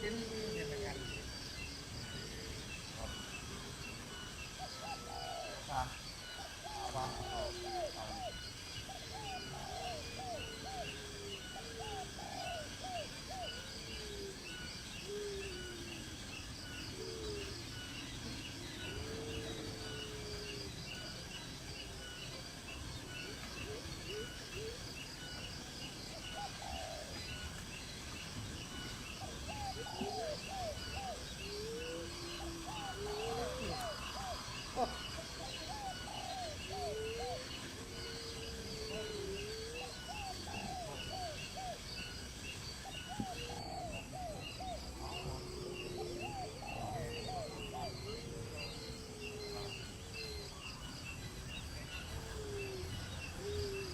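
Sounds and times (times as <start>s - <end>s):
bird calls: 0.0s - 53.9s
insect chirping: 0.0s - 53.9s.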